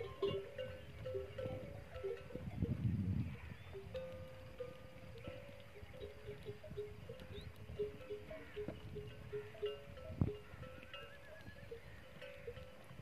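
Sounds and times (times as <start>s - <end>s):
camel bells clinking: 0.0s - 13.0s.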